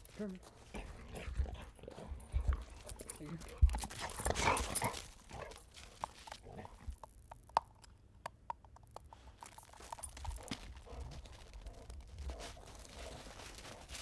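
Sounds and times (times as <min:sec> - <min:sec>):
dog paws crunching in snow: 0:00.0 - 0:07.0, 0:09.4 - 0:14.0.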